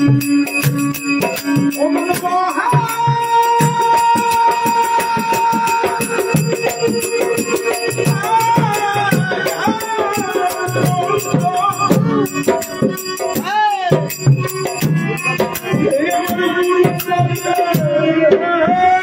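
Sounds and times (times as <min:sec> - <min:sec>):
fast percussion beat: 0:00.0 - 0:18.6
man singing into a microphone: 0:01.2 - 0:19.0.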